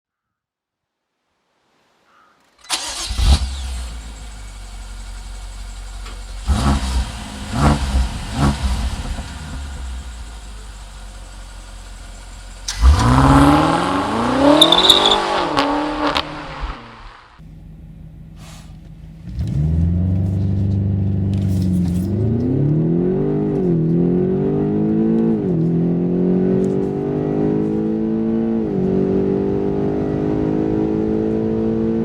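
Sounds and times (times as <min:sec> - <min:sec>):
car engine starting and revving: 0:02.7 - 0:32.0.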